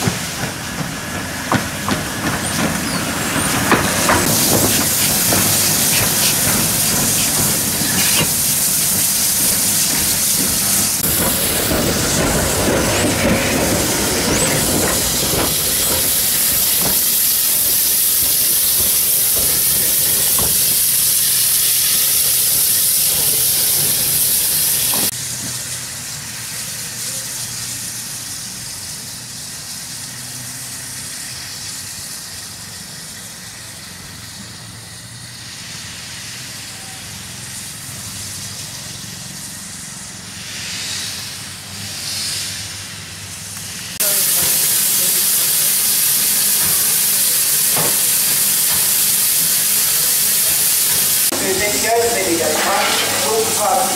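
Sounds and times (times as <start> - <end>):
burst of escaping steam: 0.0 - 53.9
steam locomotive hissing: 0.0 - 53.9.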